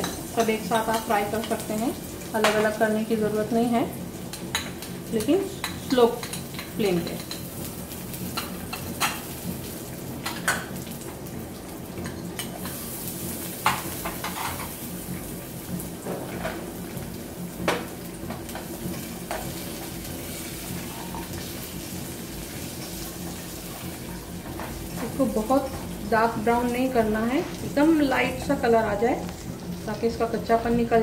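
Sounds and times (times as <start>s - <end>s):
nuts sizzling in a pot: 0.0s - 31.0s.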